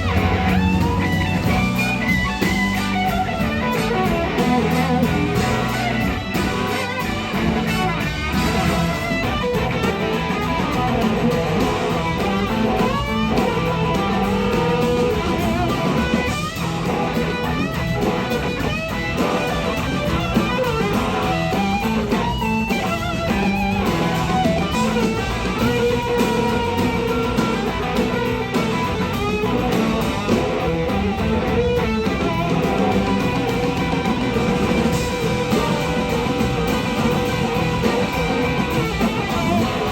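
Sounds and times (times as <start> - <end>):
electric slide guitar solo: 0.0 - 39.9
live band playing: 0.0 - 39.9.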